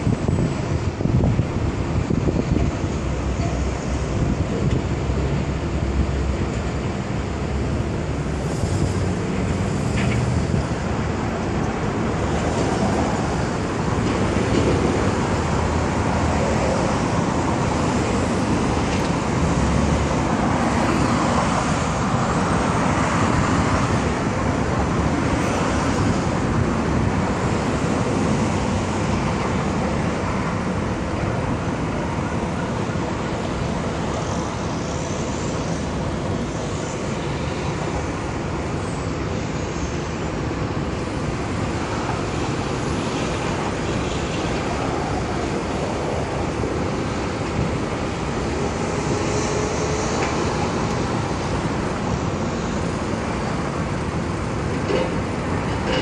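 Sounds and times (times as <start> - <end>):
passing cars and trucks: 0.0 - 56.0.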